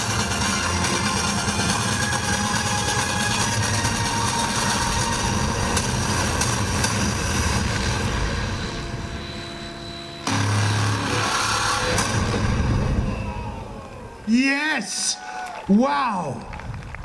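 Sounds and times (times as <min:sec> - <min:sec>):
rc helicopter motor and rotor: 0:00.0 - 0:14.3.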